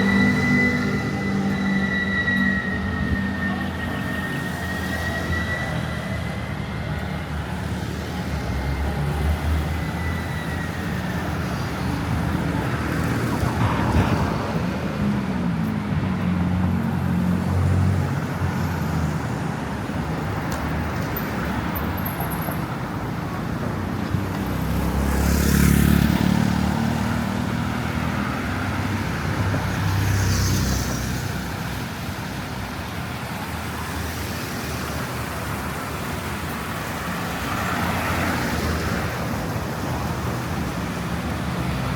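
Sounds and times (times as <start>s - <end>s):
steady rumble of engines: 0.0s - 41.9s
vehicles passing close by: 0.0s - 41.9s.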